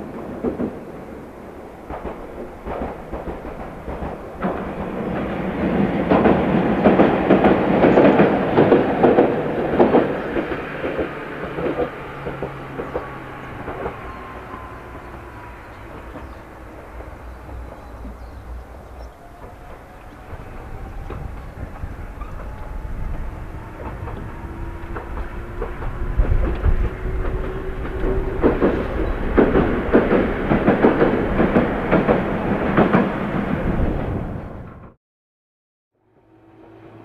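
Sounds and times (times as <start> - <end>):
train wheels clattering over rails: 0.0 - 35.0.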